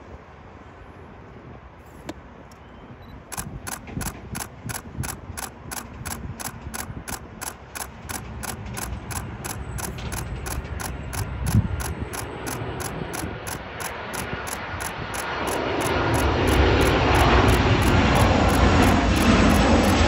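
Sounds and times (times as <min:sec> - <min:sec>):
jet airliner rumble: 0:00.0 - 0:20.0
steady mechanical ticking: 0:03.3 - 0:20.0.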